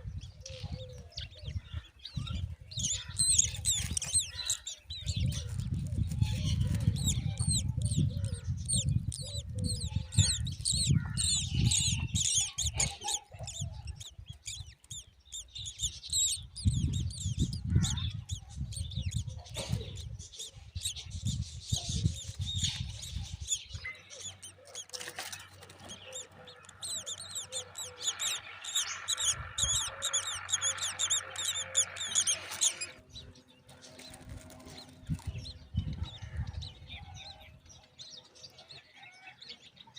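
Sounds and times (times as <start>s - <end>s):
chicks chirping rapidly: 1.5s - 37.5s.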